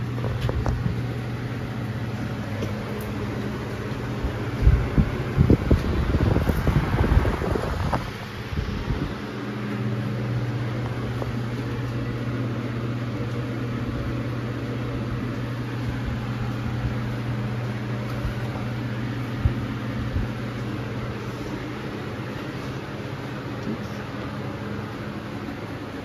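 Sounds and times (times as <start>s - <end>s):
hum of fans and ventilation: 0.0s - 26.0s.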